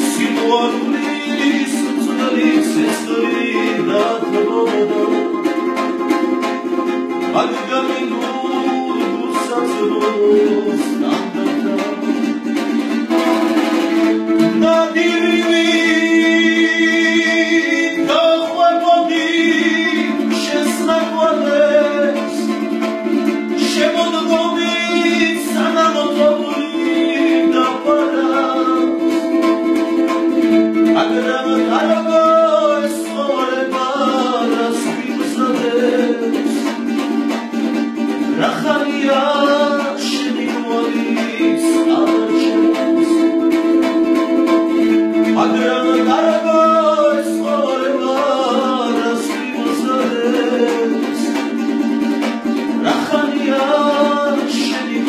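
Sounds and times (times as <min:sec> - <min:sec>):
person singing: 0:00.0 - 0:55.0
plucked strings: 0:00.0 - 0:55.0.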